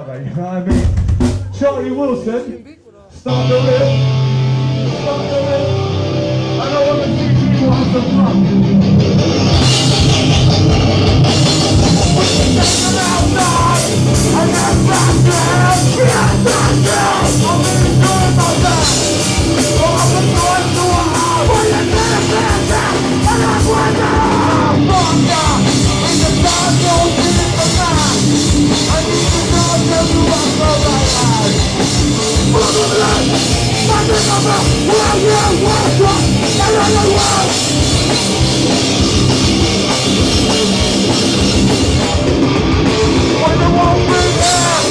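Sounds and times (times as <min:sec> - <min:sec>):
bass guitar: 0:00.0 - 0:02.4, 0:03.1 - 0:44.9
fast dense drumming: 0:00.6 - 0:01.8, 0:07.4 - 0:44.9
distorted guitars: 0:03.1 - 0:44.9.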